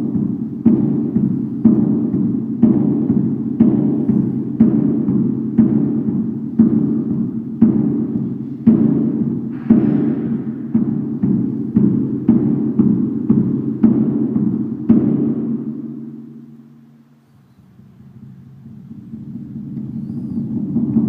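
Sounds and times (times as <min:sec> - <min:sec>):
large drum strokes: 0:00.0 - 0:21.0
low booming resonance: 0:00.0 - 0:21.0.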